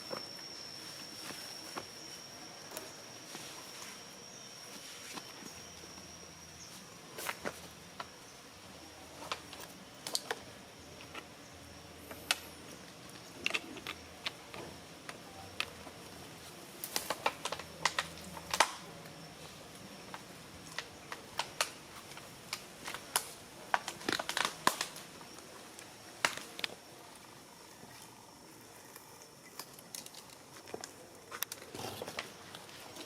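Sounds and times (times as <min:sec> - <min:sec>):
crackling and crinkling: 0:00.0 - 0:33.0.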